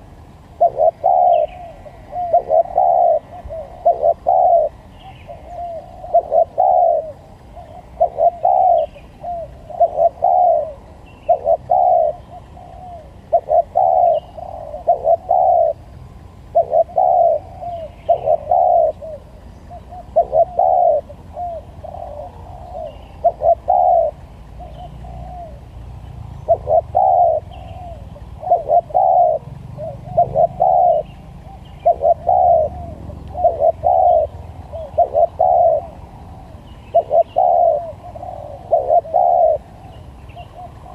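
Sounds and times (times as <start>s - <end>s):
doves cooing: 0.0s - 40.9s
small birds chirping: 0.0s - 40.9s.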